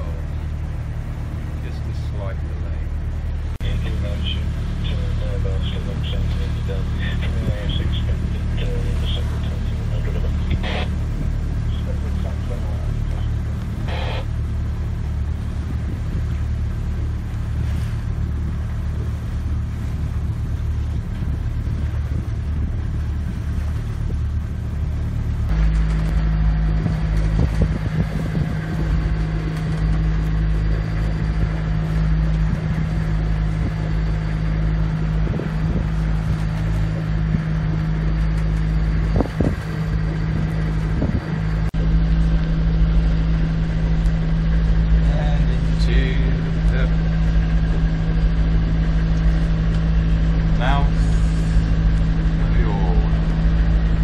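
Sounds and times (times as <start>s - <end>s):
boat engine humming: 0.0s - 54.0s
higher drone: 0.0s - 54.0s.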